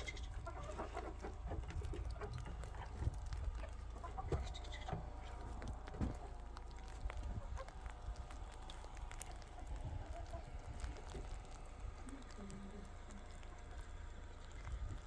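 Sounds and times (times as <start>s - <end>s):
farm animals calling: 0.0s - 14.7s
low rumble: 0.0s - 15.0s.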